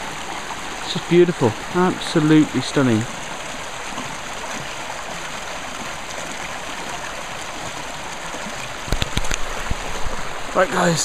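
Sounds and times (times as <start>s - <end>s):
stream flowing water: 0.0s - 11.0s.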